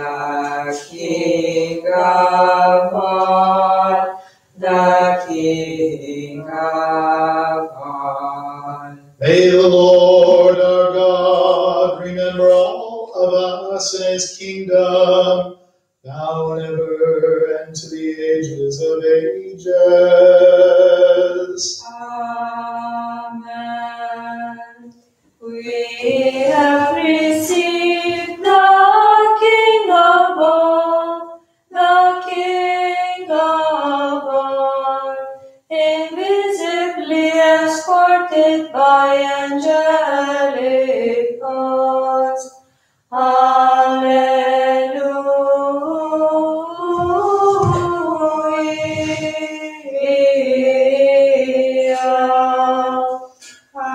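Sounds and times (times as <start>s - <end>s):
choir singing a hymn: 0.0s - 53.9s.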